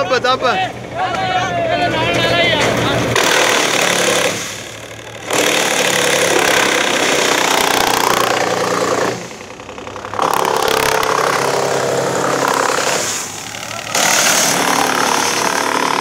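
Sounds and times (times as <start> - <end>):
wood chipper chipping branch: 2.6 - 16.0.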